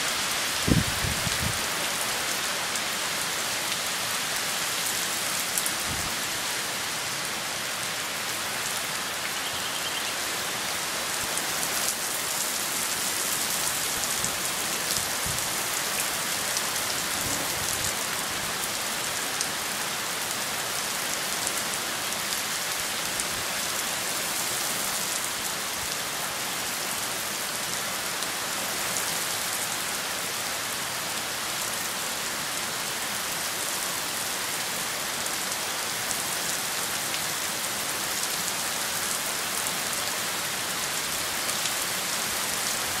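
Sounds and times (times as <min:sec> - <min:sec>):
heavy rain on asphalt: 0:00.0 - 0:43.0.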